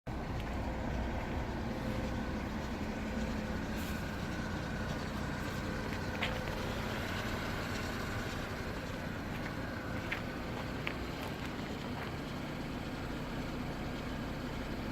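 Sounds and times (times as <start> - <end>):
machine rumble: 0.1 - 14.9.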